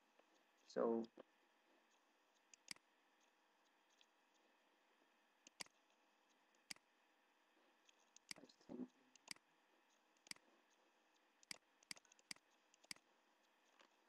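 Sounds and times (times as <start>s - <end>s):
soft muffled sound: 0.0s - 14.0s.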